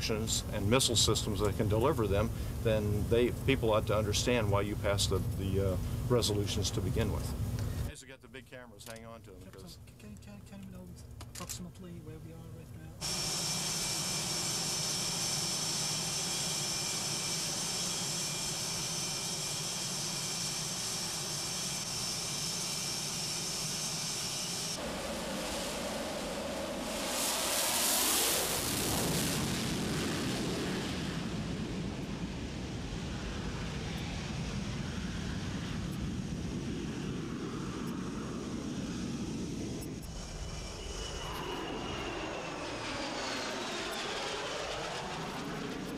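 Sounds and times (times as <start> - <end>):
jet engine roar: 0.0 - 7.9, 13.0 - 45.9
jet engine whine: 0.0 - 7.9, 10.9 - 45.9.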